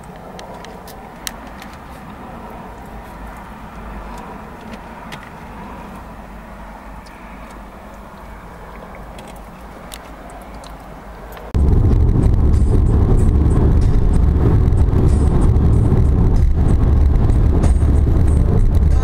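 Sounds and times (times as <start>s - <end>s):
car cabin road noise: 0.0s - 19.0s.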